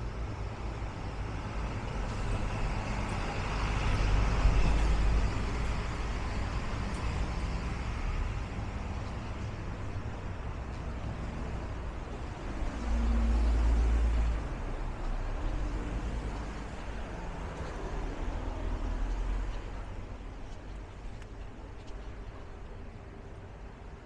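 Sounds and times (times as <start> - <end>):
low rumble of road noise: 0.0 - 24.0.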